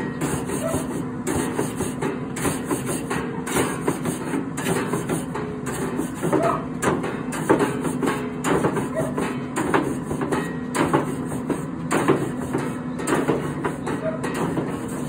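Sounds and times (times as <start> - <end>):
grill brush scrubbing grate: 0.0 - 15.0.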